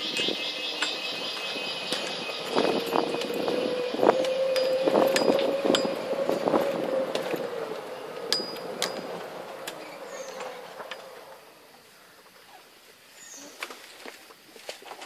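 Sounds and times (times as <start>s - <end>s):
buggy motor whine: 0.0s - 12.5s.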